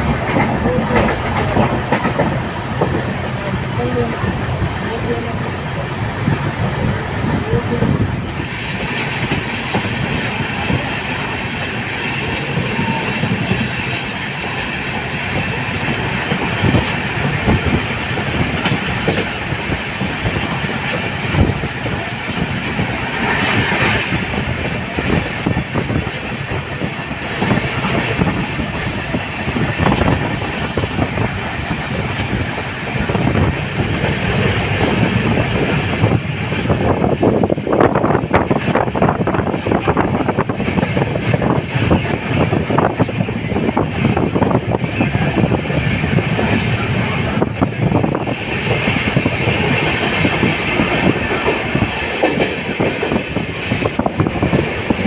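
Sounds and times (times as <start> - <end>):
wheels clacking over rail joints: 0.0 - 4.5, 8.3 - 37.2, 38.3 - 55.0
train coaches rumbling: 0.0 - 55.0.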